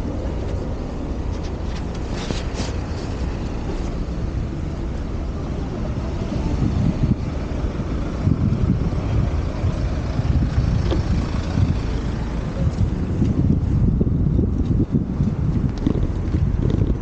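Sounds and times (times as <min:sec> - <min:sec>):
car traffic noise: 0:00.0 - 0:17.0
wind buffeting on microphone: 0:00.0 - 0:17.0.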